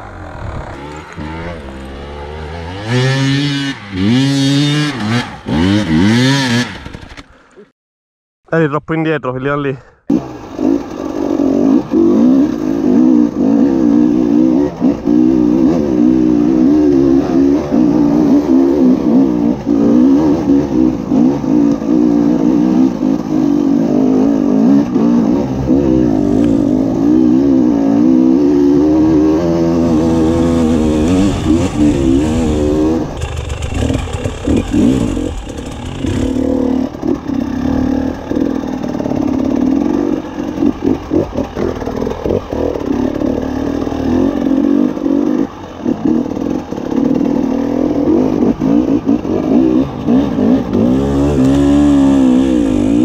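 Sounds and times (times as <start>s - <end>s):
motorcycle engine revving: 0.0s - 7.4s, 10.1s - 53.0s.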